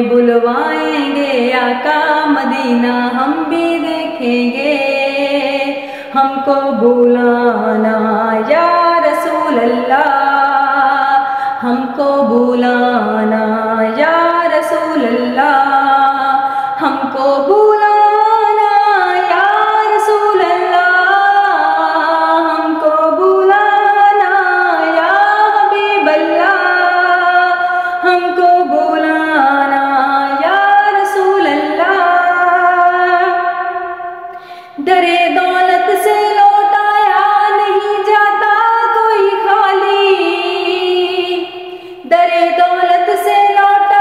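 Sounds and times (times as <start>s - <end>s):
woman singing a cappella: 0.0s - 44.0s.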